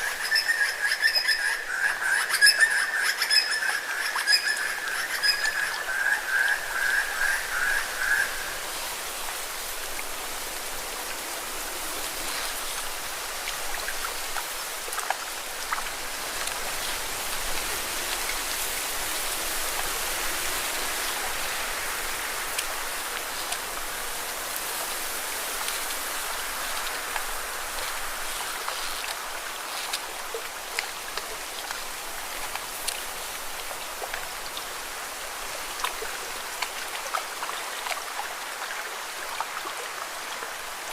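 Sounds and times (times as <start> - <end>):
water splashing against rocks: 6.8 - 40.8.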